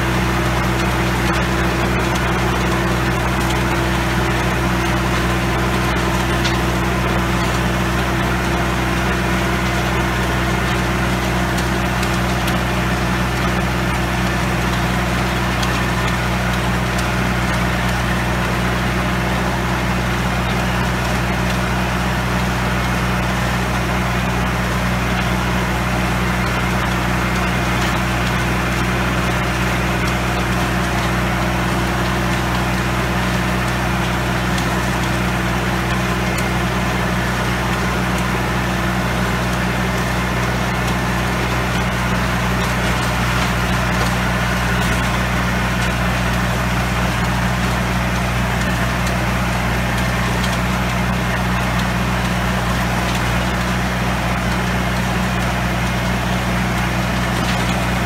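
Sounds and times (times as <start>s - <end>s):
rotary tiller through soil: 0.0s - 58.0s
tractor diesel engine running: 0.0s - 58.0s.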